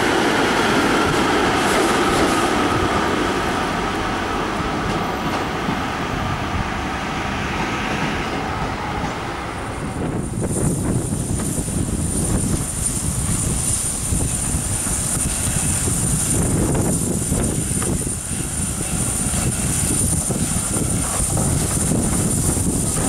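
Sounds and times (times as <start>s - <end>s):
train rumbling along track: 0.0s - 23.0s.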